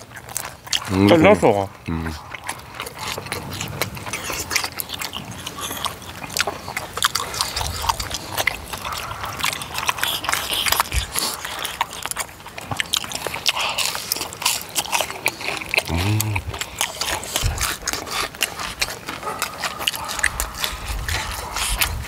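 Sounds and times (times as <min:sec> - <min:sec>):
mouth smacking and clicks: 0:00.0 - 0:22.0
people chewing food: 0:00.0 - 0:22.0.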